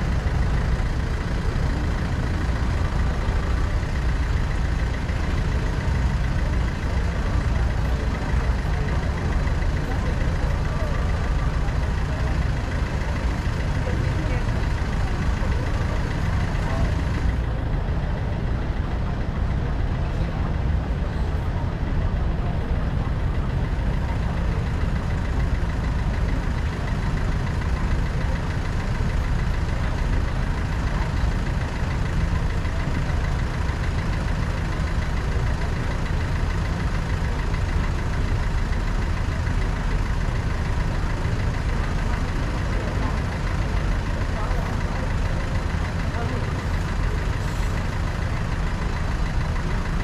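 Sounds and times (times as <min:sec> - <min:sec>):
car engine rumbling: 0:00.0 - 0:50.0
tyres on wet road: 0:00.0 - 0:50.0.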